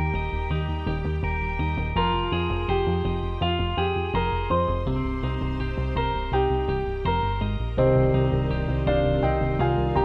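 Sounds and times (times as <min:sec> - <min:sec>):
slow instrumental music: 0:00.0 - 0:10.0.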